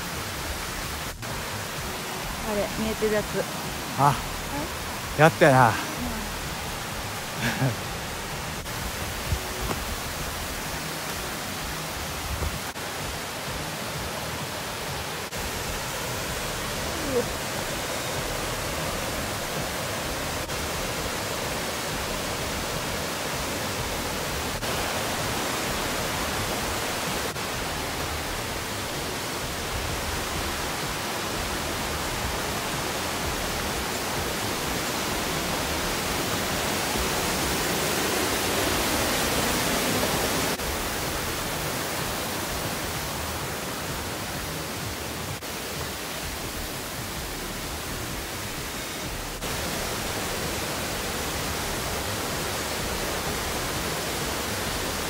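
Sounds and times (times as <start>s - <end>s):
rushing stream water: 0.0s - 55.0s.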